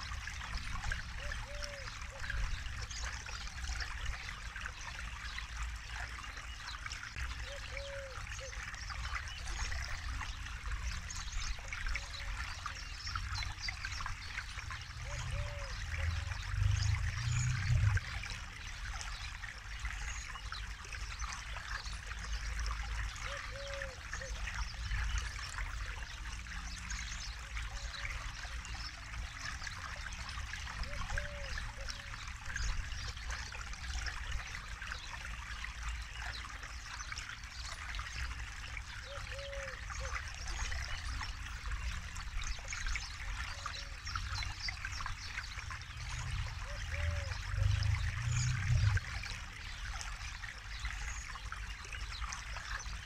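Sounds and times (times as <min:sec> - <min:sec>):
river babbling over stones: 0:00.0 - 0:53.0.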